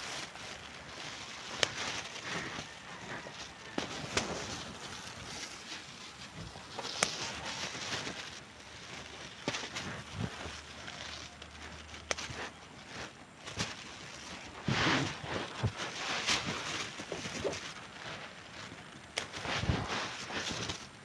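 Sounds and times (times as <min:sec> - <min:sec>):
leaves rustling: 0:00.0 - 0:21.0.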